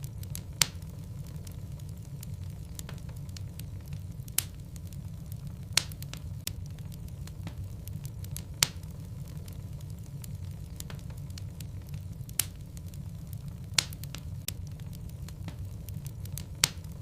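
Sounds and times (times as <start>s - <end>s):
fire flames rumbling: 0.0s - 17.0s
wood fire crackling and popping: 0.0s - 17.0s.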